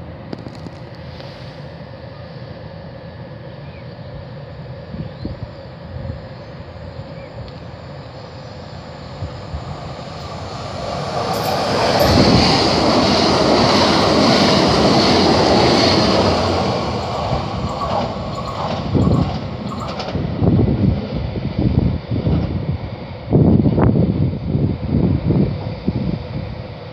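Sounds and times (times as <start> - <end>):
electric train passing at speed: 0.0 - 26.9.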